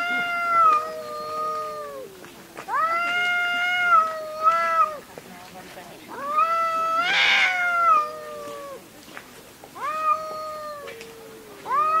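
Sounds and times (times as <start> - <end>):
cat meowing: 0.0 - 5.0, 6.1 - 8.8, 9.8 - 12.0.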